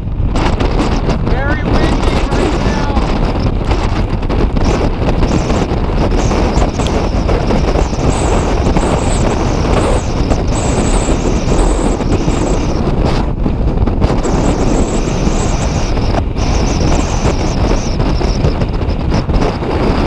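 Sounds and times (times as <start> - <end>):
gusty wind buffeting microphone: 0.0 - 20.0.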